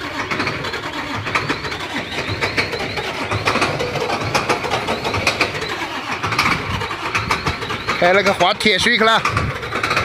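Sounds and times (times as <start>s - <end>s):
heavy engine running: 0.0s - 10.0s
sharp knocks and clanks: 0.0s - 10.0s
short high squeaks: 0.0s - 10.0s.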